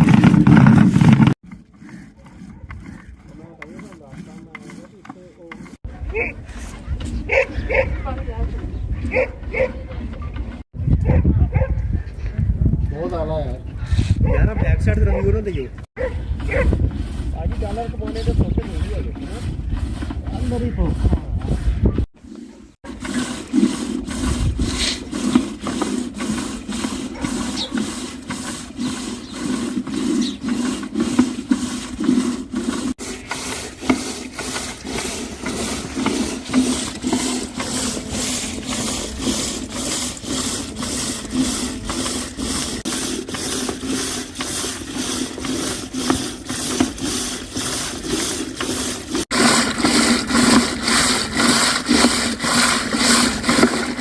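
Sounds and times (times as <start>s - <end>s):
rhythmic rubbing and scraping: 0.0s - 10.7s, 14.0s - 54.0s.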